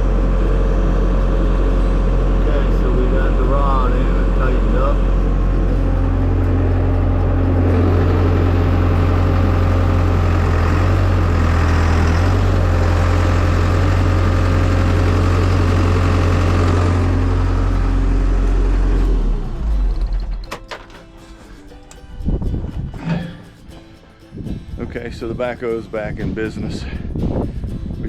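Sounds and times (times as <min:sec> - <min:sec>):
diesel engine running: 0:00.0 - 0:25.4.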